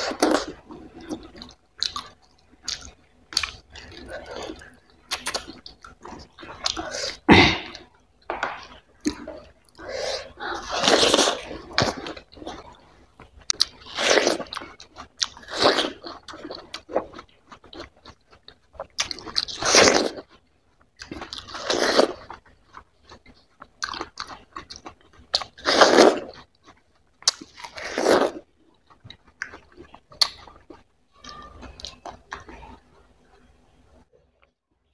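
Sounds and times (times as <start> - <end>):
wet chewing clicks: 0.0 - 7.9, 10.6 - 33.4.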